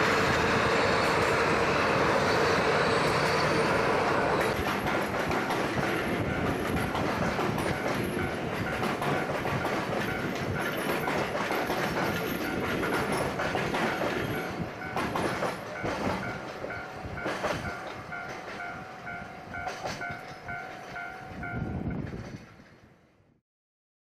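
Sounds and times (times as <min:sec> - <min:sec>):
freight train wheels clacking: 0:00.0 - 0:23.0.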